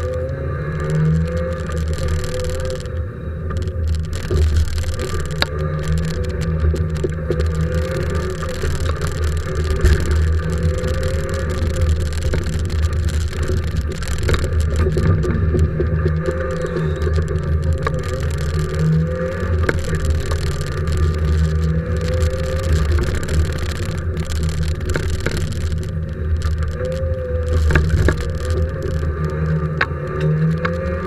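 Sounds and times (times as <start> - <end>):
rally car engine revving: 0.0 - 31.0
sharp clicks and knocks: 0.0 - 31.0.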